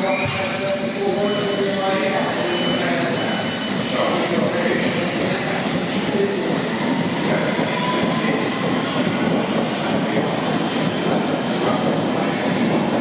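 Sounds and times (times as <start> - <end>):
electric train running on track: 0.0 - 13.0.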